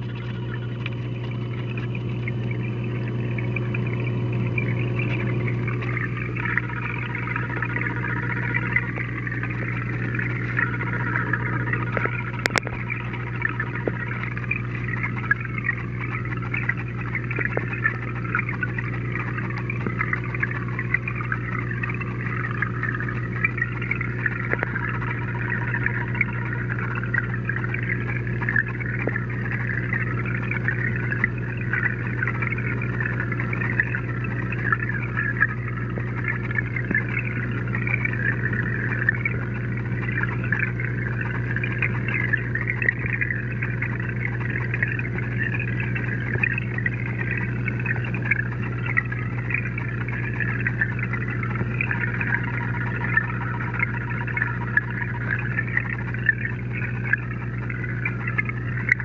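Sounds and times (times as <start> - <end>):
aquarium pump hum: 0.0 - 59.0
bubbling churning water: 0.0 - 59.0
faint ticks: 0.0 - 59.0.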